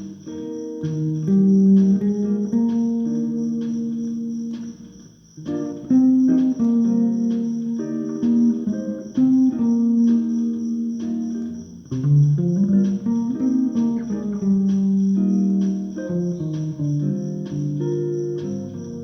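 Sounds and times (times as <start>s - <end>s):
bass guitar melody: 0.0s - 19.0s.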